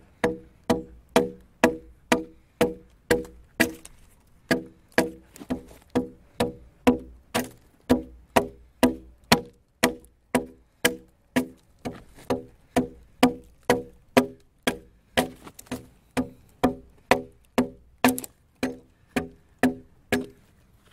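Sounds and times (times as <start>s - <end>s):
axe chopping timber: 0.0s - 20.4s.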